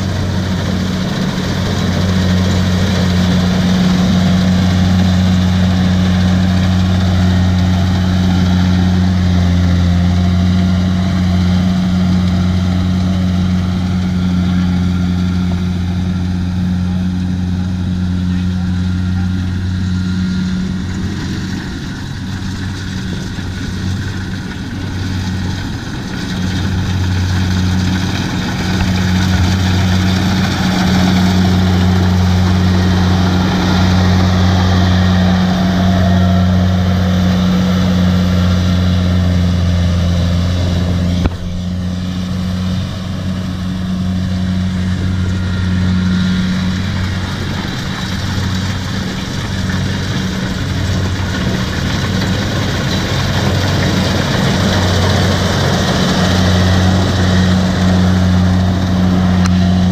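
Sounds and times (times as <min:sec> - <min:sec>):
diesel engine droning: 0:00.0 - 0:59.9
harvester machinery clatter: 0:00.0 - 0:59.9.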